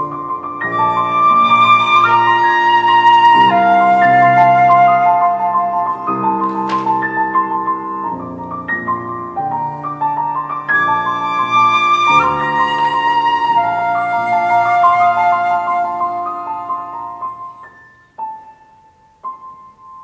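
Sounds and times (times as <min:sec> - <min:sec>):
flute melody: 0:00.0 - 0:08.2, 0:10.4 - 0:18.5
piano chords: 0:00.0 - 0:20.0.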